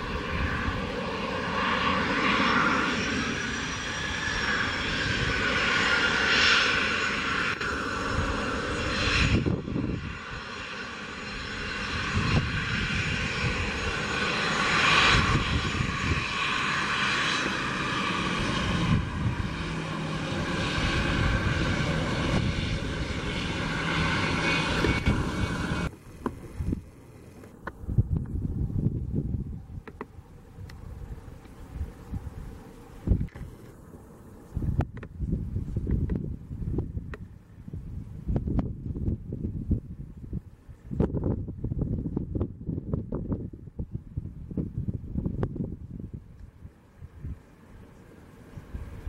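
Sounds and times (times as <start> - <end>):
jet engines whining at taxi: 0.0 - 49.0.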